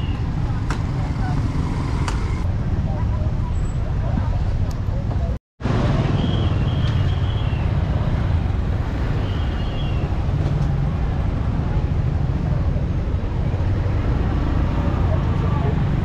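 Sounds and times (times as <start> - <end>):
traffic engines rumbling: 0.0 - 16.0.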